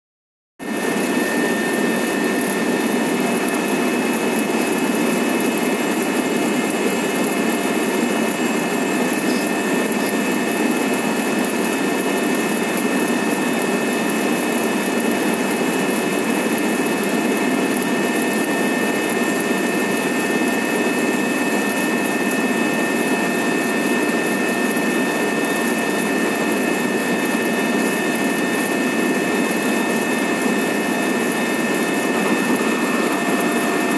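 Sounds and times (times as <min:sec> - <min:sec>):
constant high whine: 0:00.6 - 0:33.9
helicopter turbine and rotor noise: 0:00.6 - 0:33.9.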